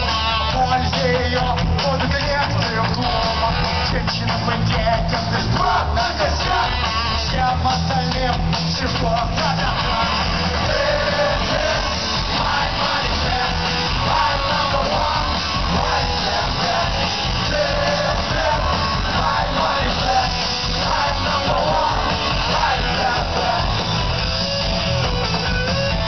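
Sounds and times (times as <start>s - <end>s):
singer shouting vocals: 0.0s - 24.4s
rock band playing live: 0.0s - 26.0s.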